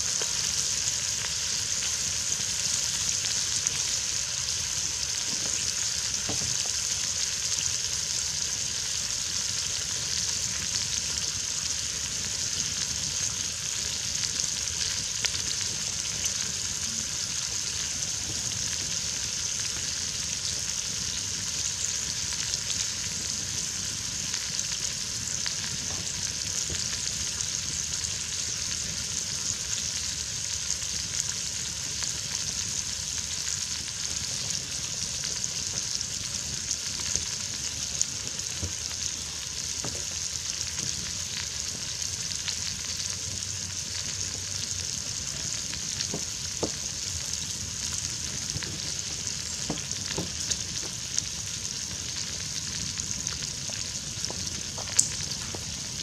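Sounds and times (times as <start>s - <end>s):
campfire pops and crackles: 0.0s - 56.0s
food sizzling: 0.0s - 56.0s.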